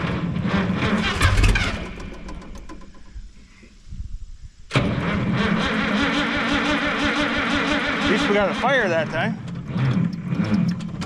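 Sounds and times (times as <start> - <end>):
starter cranking tractor engine: 0.0 - 3.8, 4.7 - 11.0
engine firing: 0.0 - 11.0.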